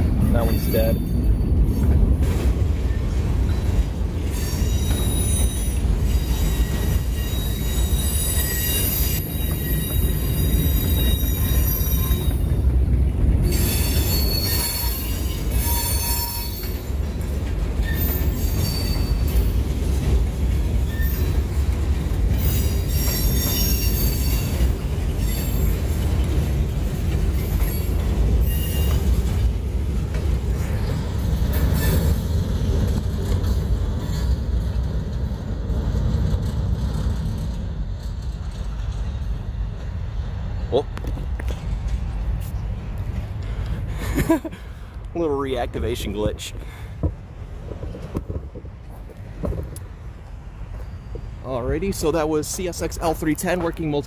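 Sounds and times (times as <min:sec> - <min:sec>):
wheels squealing on rails: 0:00.0 - 0:44.6, 0:48.8 - 0:54.0
freight train rumbling: 0:00.0 - 0:54.0.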